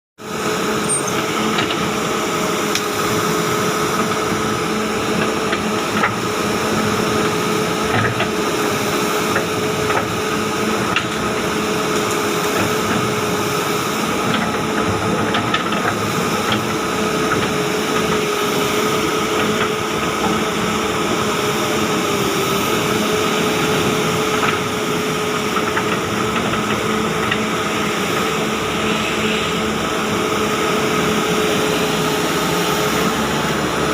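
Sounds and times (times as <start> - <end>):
constant whine: 0.2 - 33.9
excavator diesel engine running: 0.2 - 33.9.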